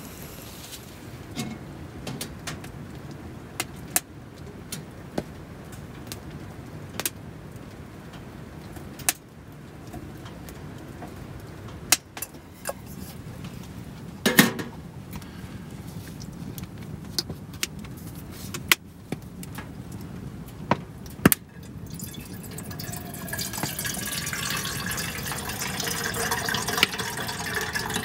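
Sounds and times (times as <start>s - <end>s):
low background noise: 0.0s - 28.0s
wood fire crackling: 0.0s - 28.0s.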